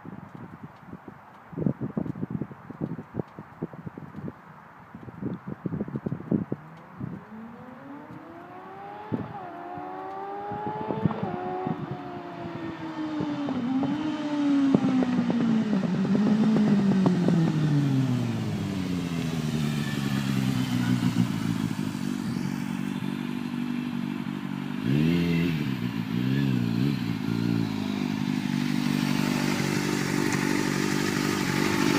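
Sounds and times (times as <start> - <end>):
motorcycle engine revving and idling: 6.0 - 31.9.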